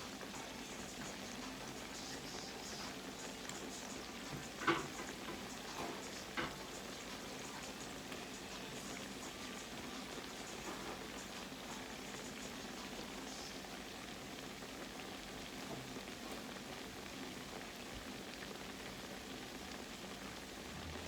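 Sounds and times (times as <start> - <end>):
croquettes sizzling in hot oil: 0.0 - 21.0.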